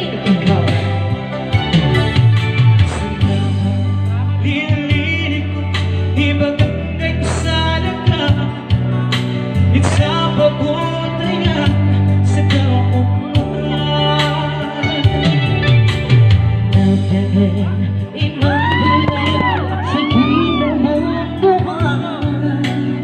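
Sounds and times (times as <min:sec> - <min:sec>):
electronic keyboard with bass notes: 0:00.0 - 0:23.0
man singing into a microphone: 0:02.8 - 0:23.0.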